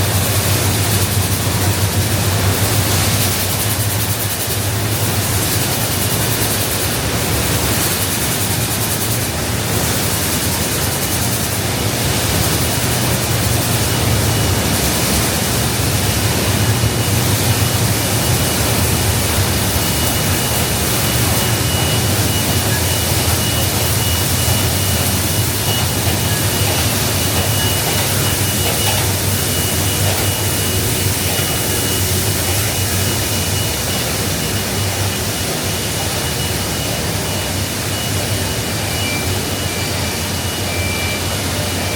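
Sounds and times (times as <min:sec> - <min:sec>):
machinery hum: 0:00.0 - 0:41.9.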